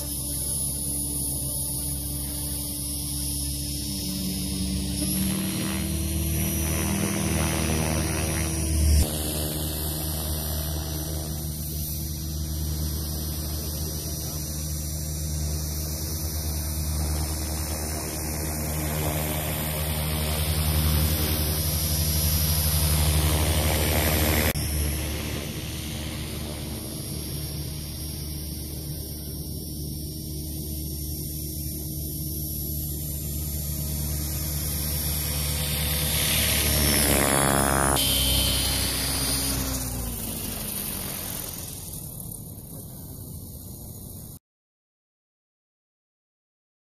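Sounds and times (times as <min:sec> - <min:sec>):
rc helicopter buzzing: 0:00.0 - 0:44.4.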